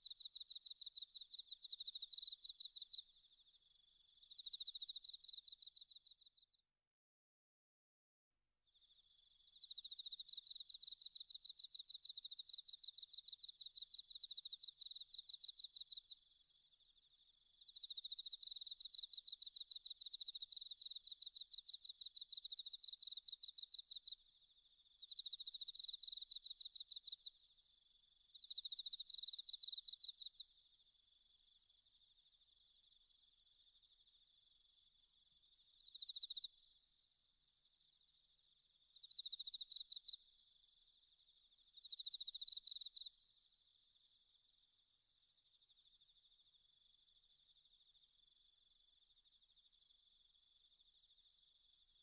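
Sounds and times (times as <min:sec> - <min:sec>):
insect background hum: 0:00.0 - 0:06.6, 0:08.7 - 0:52.0.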